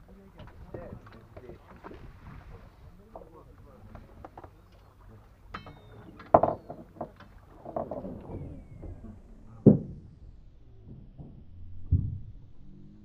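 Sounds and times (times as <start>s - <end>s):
water sloshing against hull: 0.0s - 12.8s
knocks and thumps on boat: 0.2s - 4.7s, 5.5s - 12.5s.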